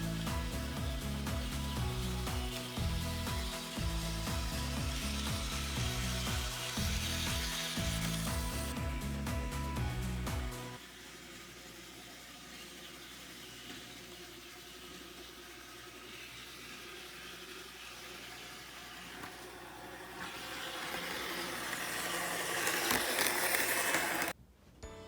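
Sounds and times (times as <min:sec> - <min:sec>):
model train motor and wheels whirring: 0:00.0 - 0:24.4.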